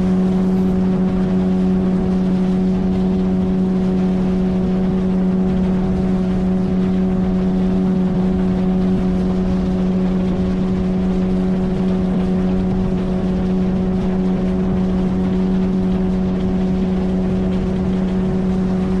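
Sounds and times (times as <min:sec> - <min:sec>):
outboard motor running: 0:00.0 - 0:19.0
water noise: 0:00.0 - 0:19.0
wind noise: 0:00.0 - 0:19.0.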